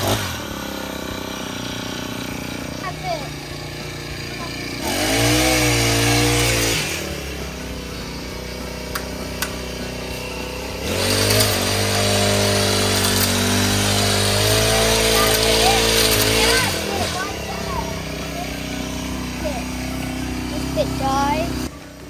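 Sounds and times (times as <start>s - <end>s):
hedge trimmer engine revving: 0.0s - 22.0s.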